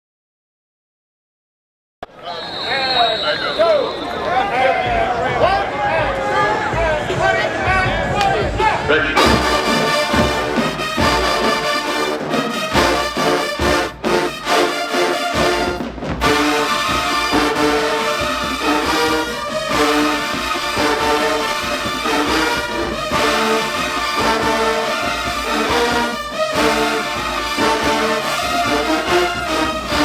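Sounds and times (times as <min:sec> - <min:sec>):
marching band brass playing: 0:02.6 - 0:30.0.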